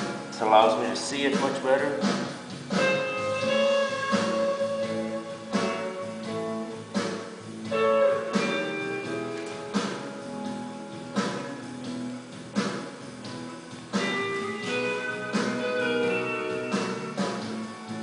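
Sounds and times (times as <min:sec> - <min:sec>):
guitar chords strummed: 0:00.0 - 0:18.0.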